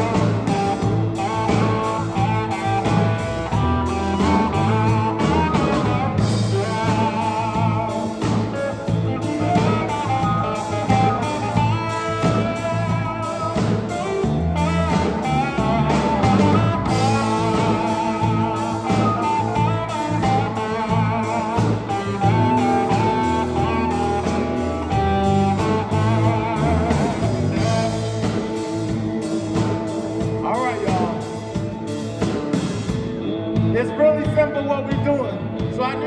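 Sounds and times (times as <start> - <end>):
steady drum beat: 0.0 - 35.9
bass: 0.0 - 36.0
steel guitar melody: 0.0 - 36.0.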